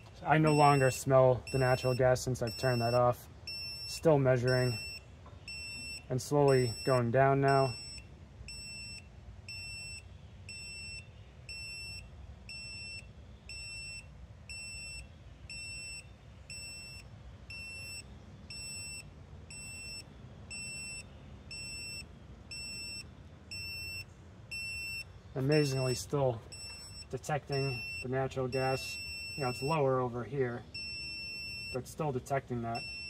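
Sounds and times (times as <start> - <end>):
gas detector alarm beeps: 0.0 - 33.0.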